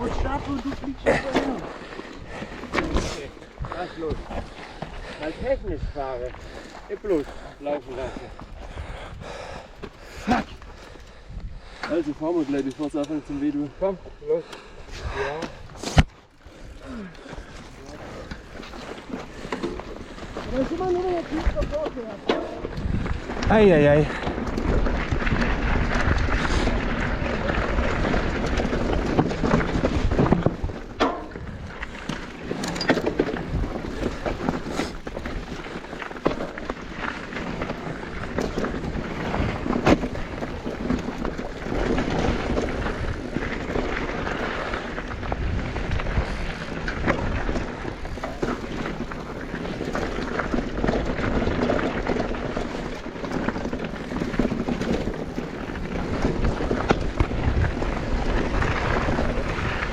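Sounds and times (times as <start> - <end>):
bike rattling and knocking: 0.0 - 14.6, 15.3 - 59.9
tyres rolling over gravel: 0.0 - 59.9
wind buffeting microphone: 0.0 - 59.9.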